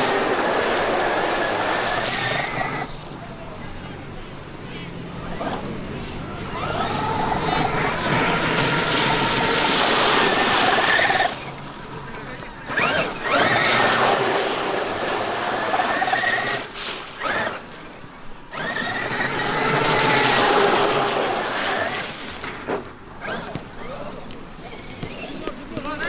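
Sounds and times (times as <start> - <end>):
electric motor and gears whining: 0.0 - 26.0.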